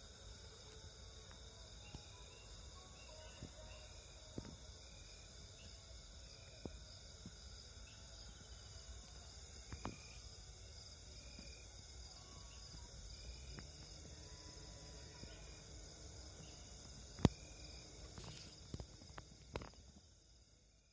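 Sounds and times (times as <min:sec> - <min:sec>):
crickets and night insects: 0:00.0 - 0:20.9.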